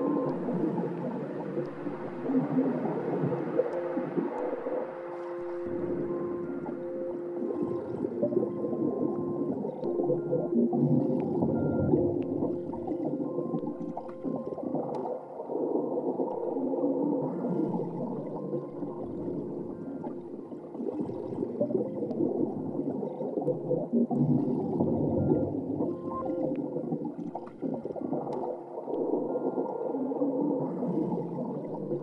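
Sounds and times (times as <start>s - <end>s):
gurgling whale-like wash: 0.0s - 32.0s.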